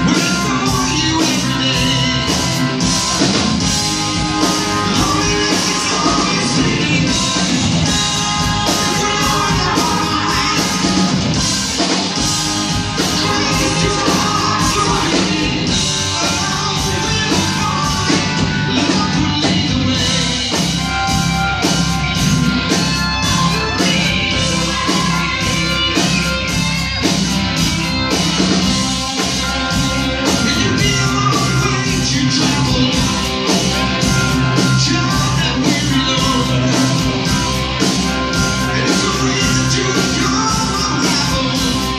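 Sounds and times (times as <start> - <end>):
person singing: 0.0 - 27.1, 28.1 - 41.9
live rock band: 0.0 - 41.9.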